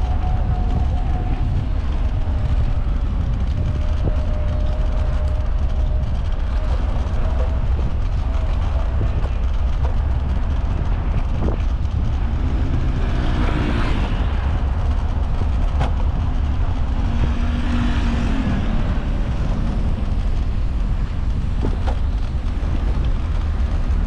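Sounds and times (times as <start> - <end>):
vehicles passing: 0.0 - 24.0
wind and scooter ride noise: 0.0 - 24.0.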